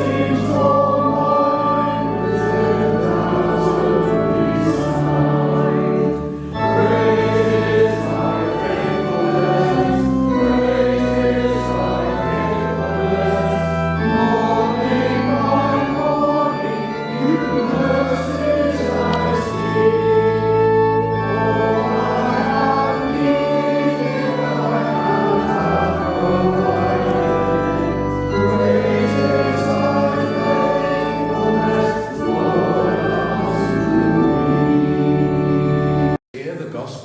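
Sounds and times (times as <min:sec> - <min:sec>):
congregation singing a hymn: 0:00.0 - 0:36.2
pipe organ: 0:00.0 - 0:36.9.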